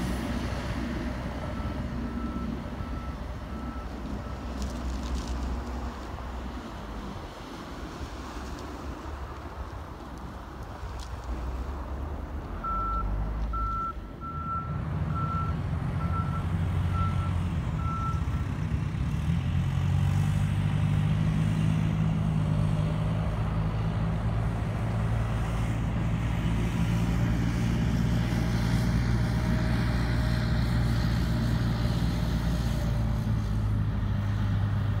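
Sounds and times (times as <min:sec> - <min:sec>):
diesel engine running: 0:00.0 - 0:07.2, 0:12.6 - 0:35.0.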